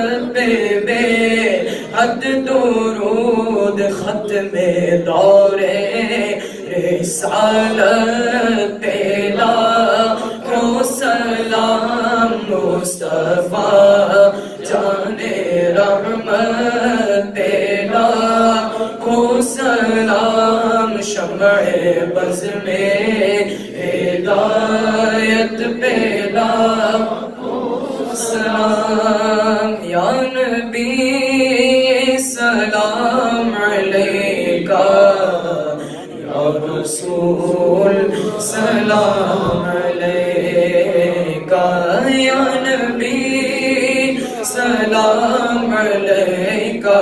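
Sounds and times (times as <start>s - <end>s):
male voices chanting through microphone: 0.0s - 47.0s.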